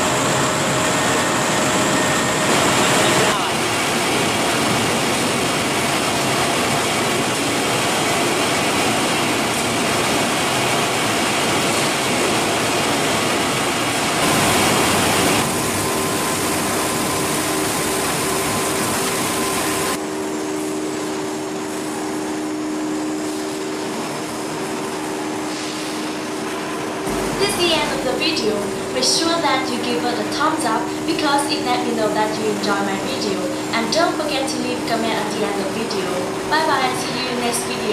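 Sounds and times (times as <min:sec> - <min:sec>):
factory machinery running: 0:00.0 - 0:37.9
low machine hum: 0:00.0 - 0:37.9
machine whine: 0:00.0 - 0:37.9.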